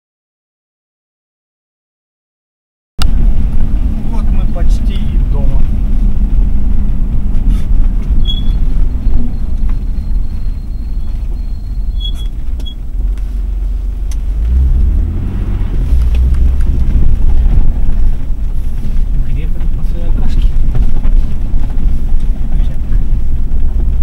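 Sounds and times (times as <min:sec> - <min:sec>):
car engine and tyre rumble: 0:03.0 - 0:24.0.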